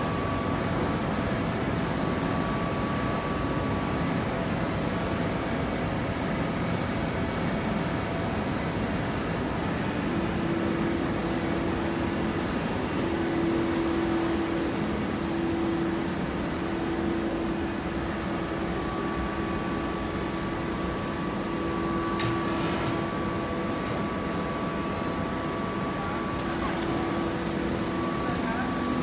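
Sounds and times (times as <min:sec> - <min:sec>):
baler machinery hum: 0:00.0 - 0:29.0.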